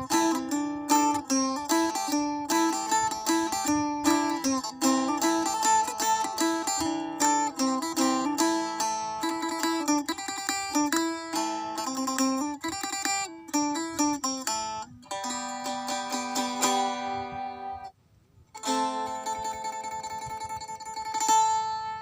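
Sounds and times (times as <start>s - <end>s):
plucked lute playing: 0.0s - 17.9s, 18.5s - 22.0s.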